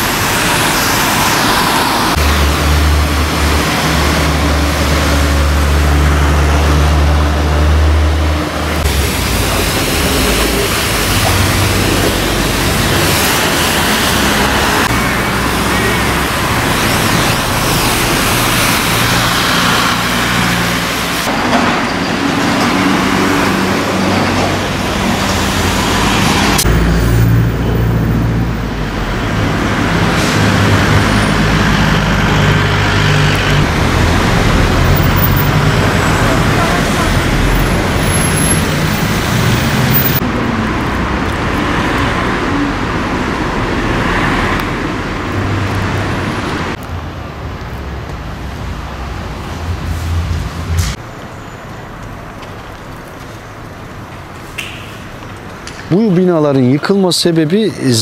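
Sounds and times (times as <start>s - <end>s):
road noise: 0.0s - 58.0s
vehicles passing: 0.0s - 58.0s.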